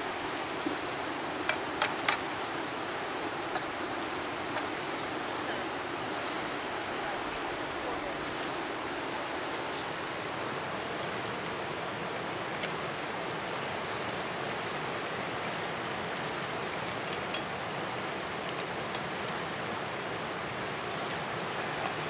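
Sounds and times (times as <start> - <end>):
fast-flowing river rushing: 0.0 - 22.0.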